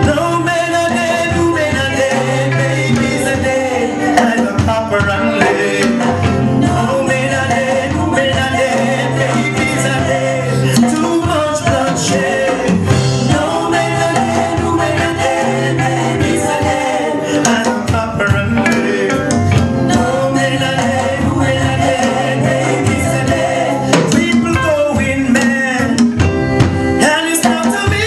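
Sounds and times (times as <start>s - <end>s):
repeating bass line: 0.0s - 25.9s
live band music: 0.0s - 28.0s
person singing: 0.0s - 28.0s.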